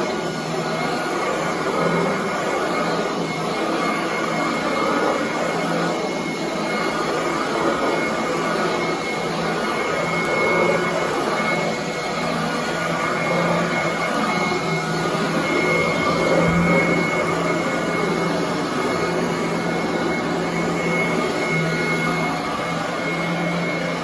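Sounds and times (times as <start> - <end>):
vacuum cleaner running on carpet: 0.0 - 24.0.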